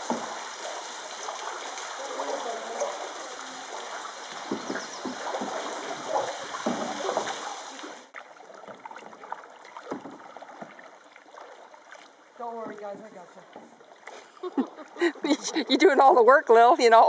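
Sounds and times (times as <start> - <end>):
water splashing around canoe: 0.0 - 17.0.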